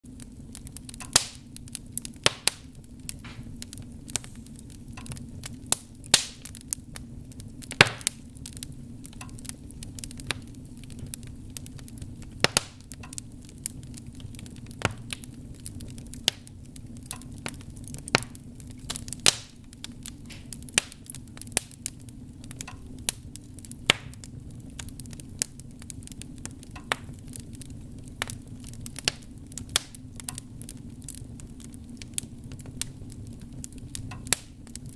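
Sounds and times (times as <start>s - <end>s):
fire crackling and popping: 0.0s - 34.9s
fire rumbling: 0.0s - 34.9s.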